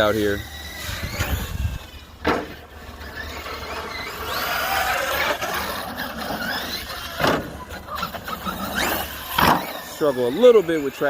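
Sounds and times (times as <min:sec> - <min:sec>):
rc truck electric motor whining: 0:00.0 - 0:11.0.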